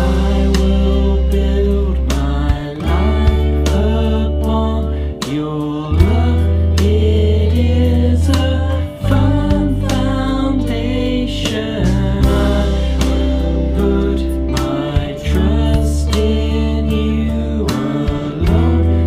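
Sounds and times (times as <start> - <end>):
hymn singing: 0.0 - 19.0
instrumental accompaniment: 0.0 - 19.0
sustained bass notes: 0.0 - 19.0.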